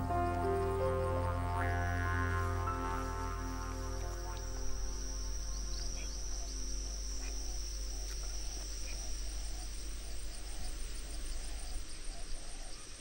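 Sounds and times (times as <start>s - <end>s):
insect chorus shrilling: 0.0s - 13.0s
lower repeating insect call: 0.0s - 13.0s.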